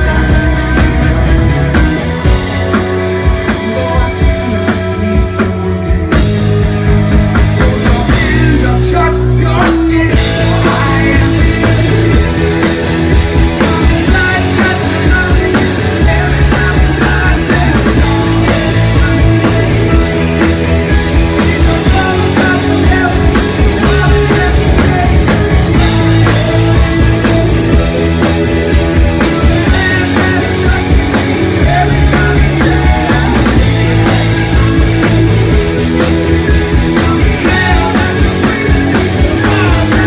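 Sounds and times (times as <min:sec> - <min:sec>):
person singing: 0:00.0 - 0:06.2, 0:07.3 - 0:12.6, 0:13.2 - 0:20.2, 0:21.2 - 0:35.6, 0:36.4 - 0:40.0
live rock band playing: 0:00.0 - 0:40.0.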